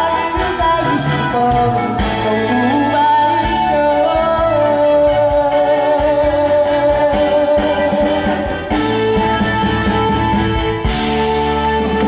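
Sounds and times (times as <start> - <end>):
live band playing pop ballad: 0.0 - 12.0.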